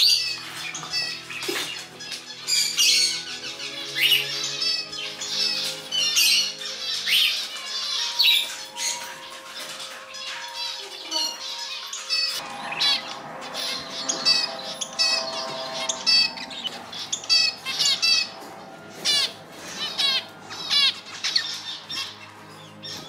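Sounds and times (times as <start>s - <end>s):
cage birds chirping: 0.0s - 23.0s
soft background music: 0.0s - 23.0s.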